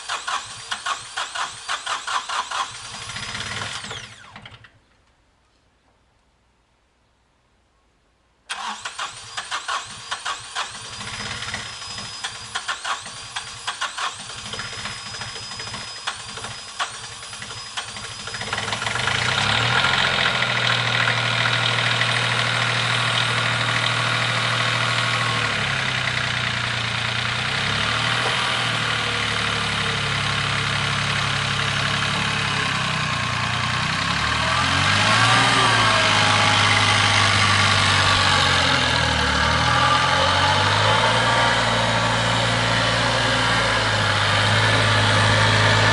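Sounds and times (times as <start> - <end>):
tractor engine cranking and idling: 0.0 - 5.5, 8.5 - 45.9.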